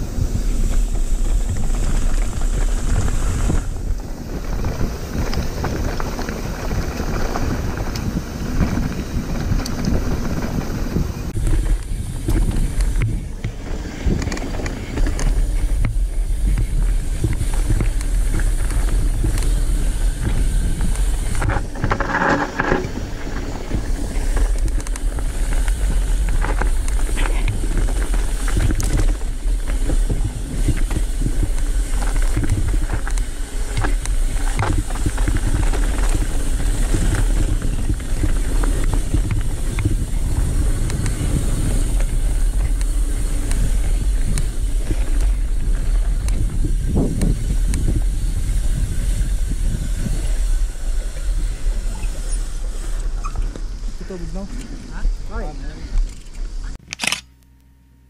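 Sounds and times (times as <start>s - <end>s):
wind buffeting the microphone: 0.0s - 56.8s
bike rattling over rough ground: 0.0s - 57.2s.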